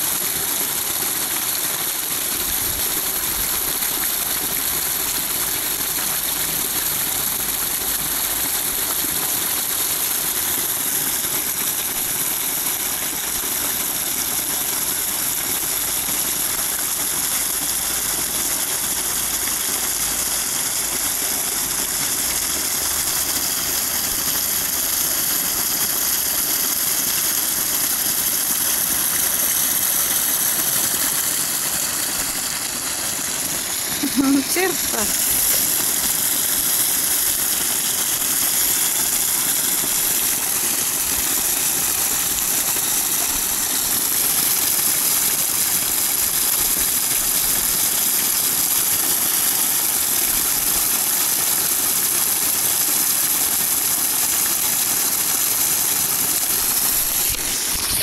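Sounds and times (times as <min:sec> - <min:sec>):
water rushing over small waterfall: 0:00.0 - 0:58.0.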